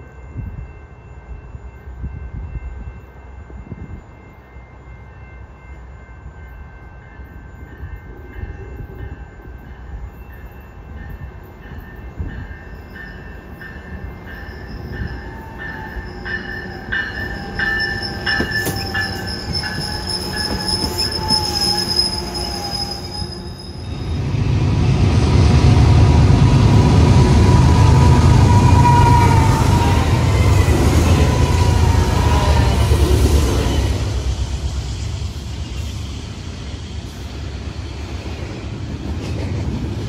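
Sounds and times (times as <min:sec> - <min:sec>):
train wheels squealing: 0:00.0 - 0:39.4
diesel locomotives rumbling: 0:00.0 - 0:40.0.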